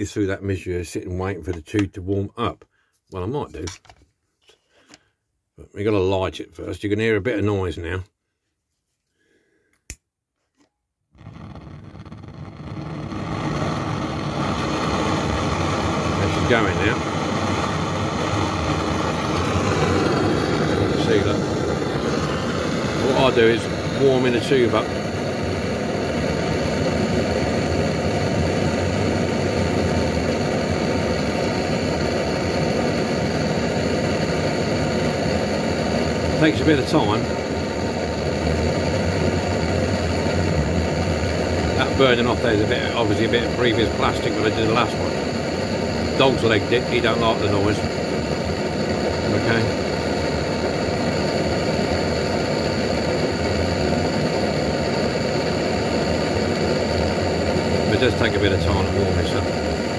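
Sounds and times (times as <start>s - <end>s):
gas torch burning: 11.1s - 59.9s.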